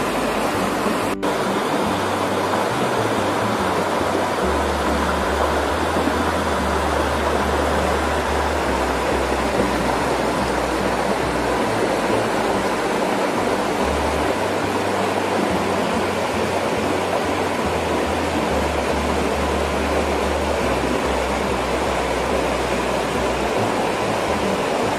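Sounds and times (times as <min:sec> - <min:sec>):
low bass background music: 0:00.0 - 0:24.9
river water rushing: 0:00.0 - 0:24.9.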